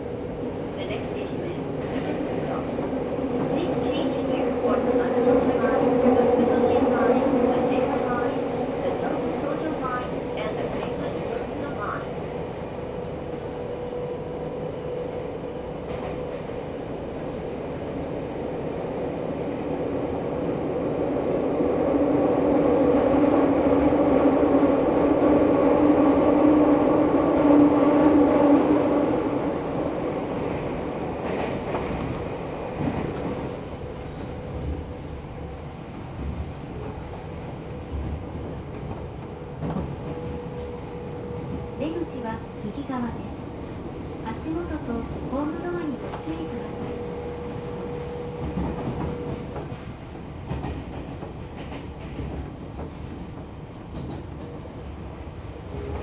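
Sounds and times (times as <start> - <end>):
subway wheels rumbling on rail: 0.0 - 56.0.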